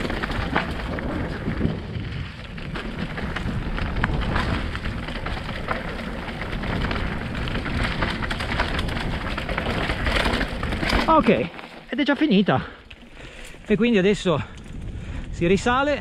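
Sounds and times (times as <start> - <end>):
tyres crunching over stones: 0.0 - 14.9
bike rattling: 0.0 - 16.0.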